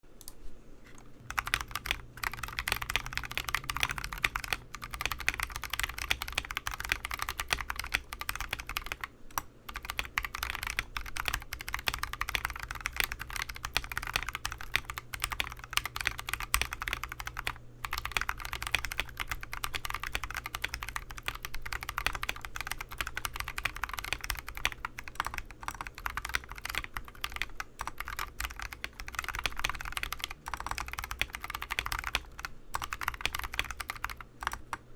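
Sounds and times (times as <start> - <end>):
fast typing on mechanical keyboard: 1.2 - 34.9.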